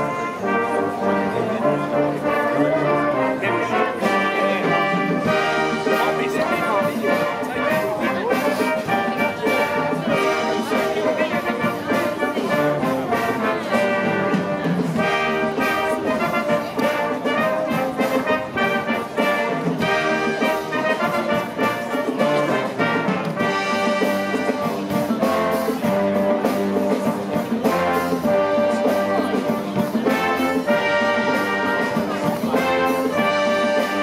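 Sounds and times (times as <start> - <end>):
military brass band playing: 0.0 - 34.0.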